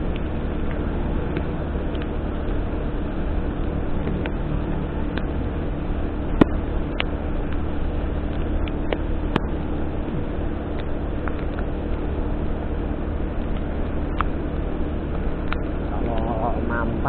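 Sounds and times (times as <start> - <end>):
vehicle engine and tyres drone: 0.0 - 17.0.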